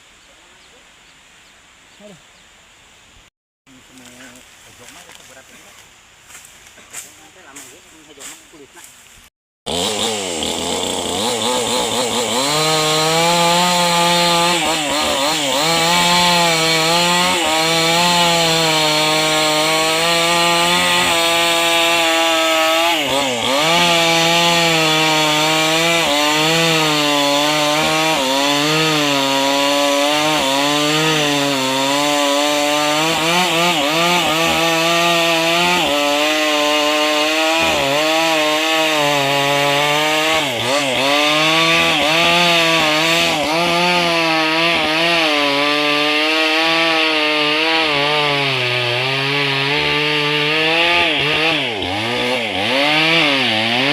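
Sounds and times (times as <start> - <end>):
chainsaw cutting wood: 9.7 - 53.9.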